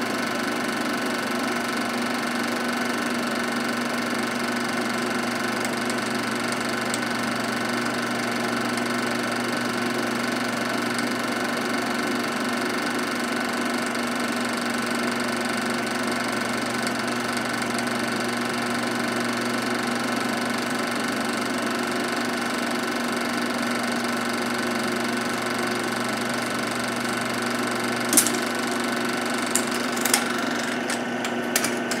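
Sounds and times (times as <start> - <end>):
film projector whirring: 0.0 - 32.0.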